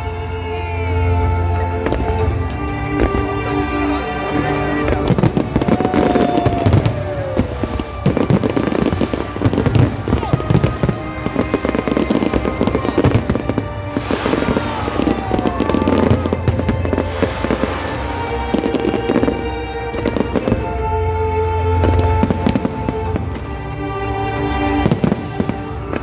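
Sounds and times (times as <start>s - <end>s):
fireworks bangs and crackles: 0.0s - 26.0s
music holding steady tones: 0.0s - 26.0s.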